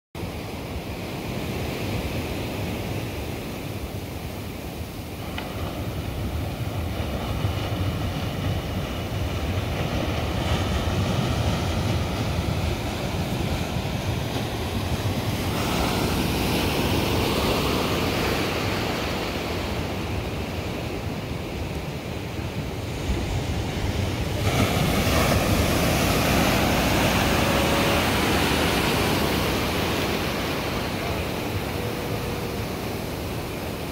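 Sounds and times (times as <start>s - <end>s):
ocean surf breaking: 0.2s - 33.9s.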